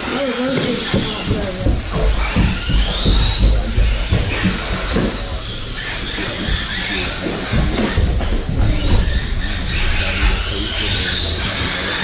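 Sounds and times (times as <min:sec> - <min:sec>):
electric motor whine: 0:00.0 - 0:12.0
low thumps: 0:00.4 - 0:12.0.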